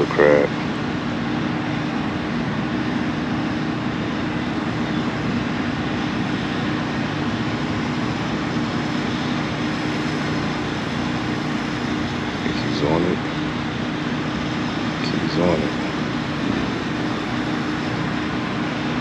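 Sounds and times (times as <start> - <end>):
boat motor droning: 0.0 - 19.0.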